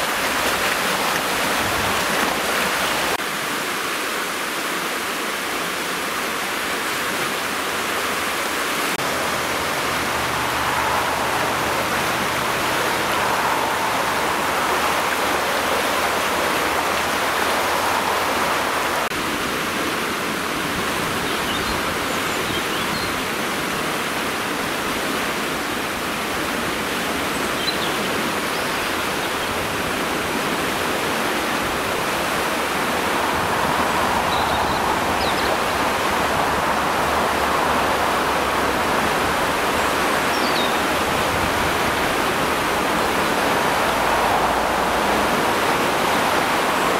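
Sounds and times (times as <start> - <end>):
floodwater rushing: 0.0 - 46.9.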